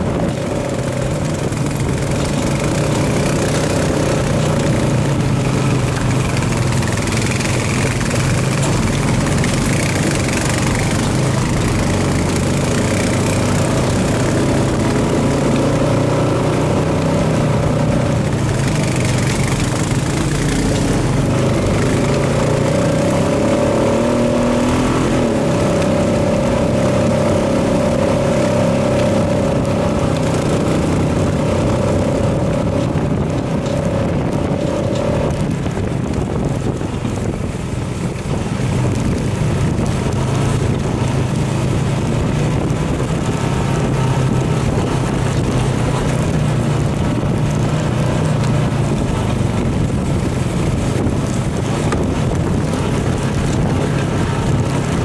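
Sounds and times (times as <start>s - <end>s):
atv engine rumbling: 0.0s - 55.0s.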